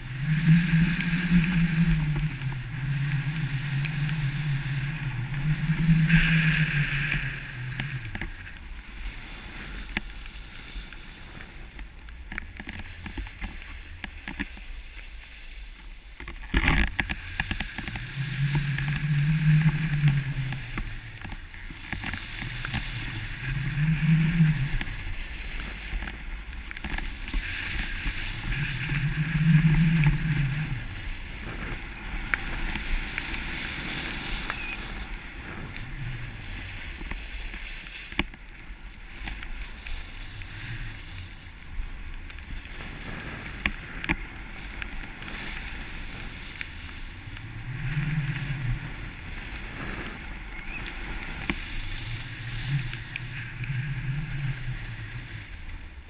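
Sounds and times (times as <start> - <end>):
skis scraping over snow: 0.0 - 56.0
wind on microphone: 0.0 - 56.0.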